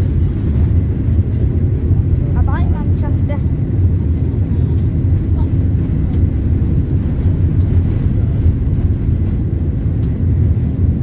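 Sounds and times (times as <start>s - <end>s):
jet engines low rumble: 0.0s - 11.0s.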